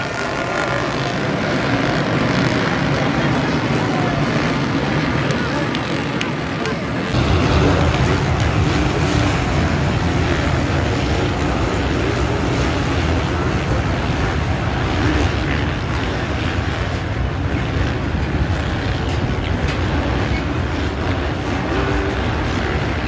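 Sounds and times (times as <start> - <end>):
motocross bike engines racing: 0.0 - 23.0.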